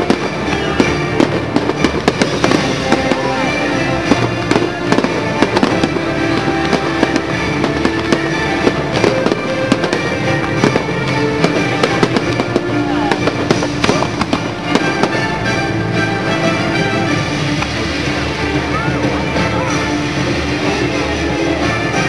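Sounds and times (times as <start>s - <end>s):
fireworks cracks and bangs: 0.0s - 22.0s
music through loudspeakers: 0.0s - 22.0s.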